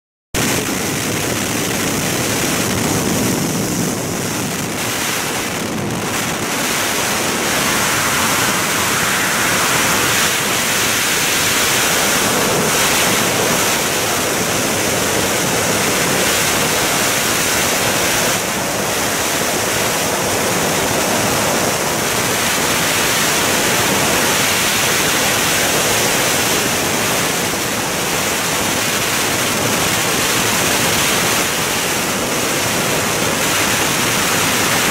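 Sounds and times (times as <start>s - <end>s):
freefall wind rushing over microphone: 0.4s - 34.9s.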